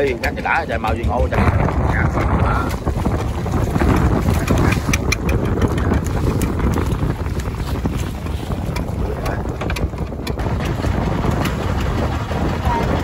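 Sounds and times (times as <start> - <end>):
water splashing against boat: 0.0 - 13.0
wind buffeting microphone: 0.0 - 13.0.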